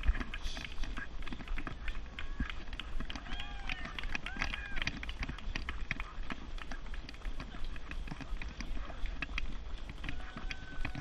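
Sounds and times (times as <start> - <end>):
running footsteps on tarmac: 0.0 - 11.0.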